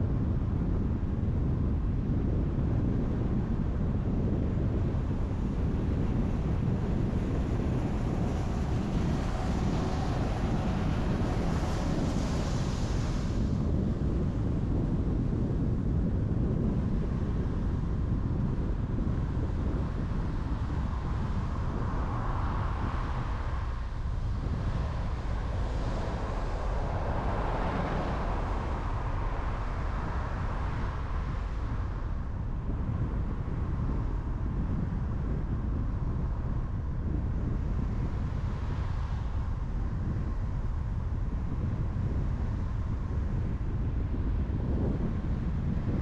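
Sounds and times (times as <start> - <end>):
car driving on highway: 0.0 - 46.0.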